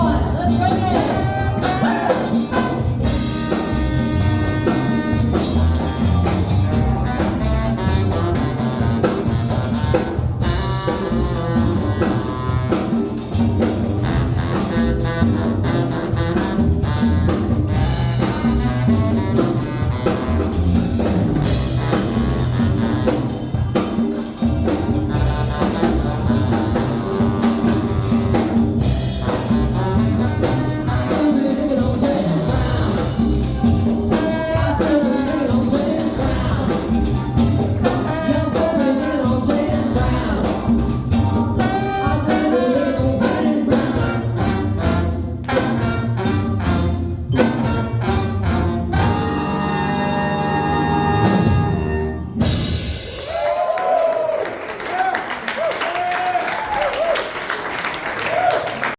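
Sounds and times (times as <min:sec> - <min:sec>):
brass: 0:00.0 - 0:53.2
drum kit beat: 0:00.0 - 0:57.1.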